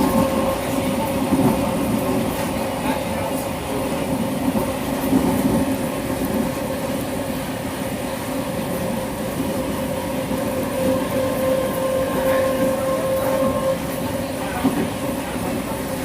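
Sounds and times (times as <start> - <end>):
wheels rumbling on track: 0.0 - 16.0.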